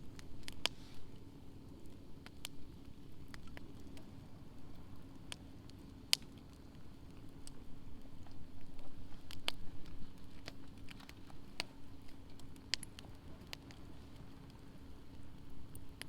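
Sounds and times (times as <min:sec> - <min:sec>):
faint steady hum: 0:00.0 - 0:16.0
low rumble of burning: 0:00.0 - 0:16.0
wood fire crackling and popping: 0:00.0 - 0:16.0.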